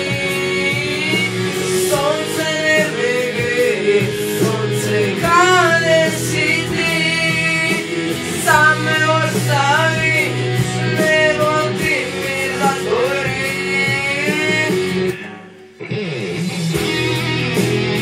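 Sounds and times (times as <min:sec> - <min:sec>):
boy singing into microphone: 0:00.0 - 0:15.6.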